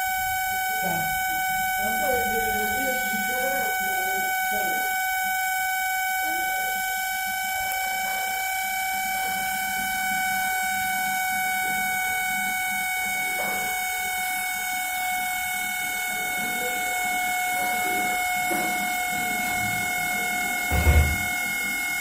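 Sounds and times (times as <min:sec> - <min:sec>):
microwave fan motor whine: 0:00.0 - 0:22.0.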